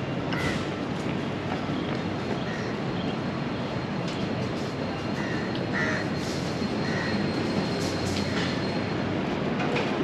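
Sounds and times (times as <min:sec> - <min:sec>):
low rumbling city noise: 0:00.0 - 0:10.0.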